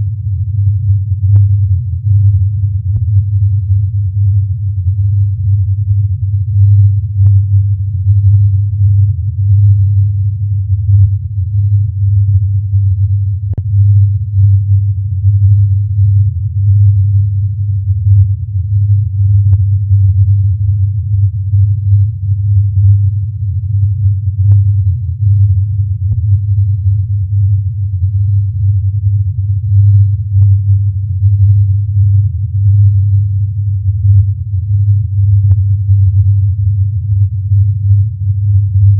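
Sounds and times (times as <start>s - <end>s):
steady deep hum: 0.0s - 38.9s.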